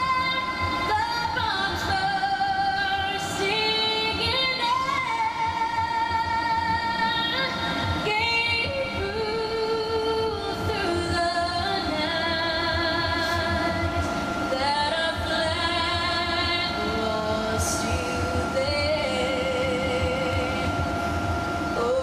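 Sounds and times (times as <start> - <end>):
woman singing with music: 0.0 - 22.0.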